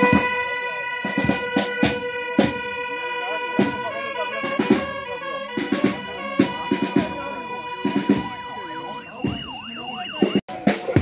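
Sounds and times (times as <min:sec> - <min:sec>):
drums struck: 0:00.0 - 0:02.8, 0:03.6 - 0:03.9, 0:04.5 - 0:05.0, 0:05.6 - 0:11.0.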